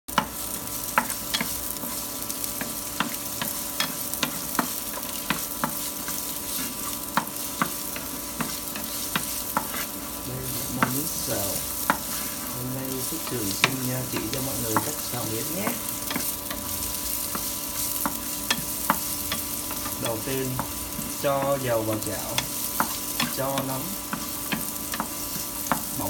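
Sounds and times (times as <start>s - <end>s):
spatula knocking and scraping pan: 0.1s - 26.0s
vegetables sizzling in oil: 0.1s - 26.0s.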